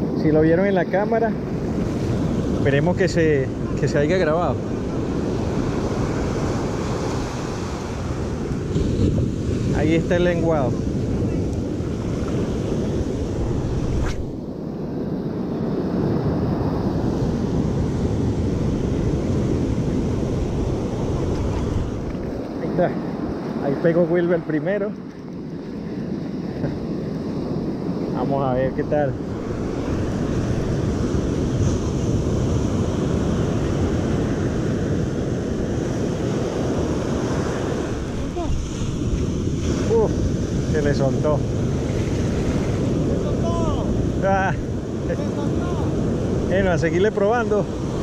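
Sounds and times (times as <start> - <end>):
ocean surf: 0.0 - 48.0
wind rumbling on microphone: 0.0 - 48.0.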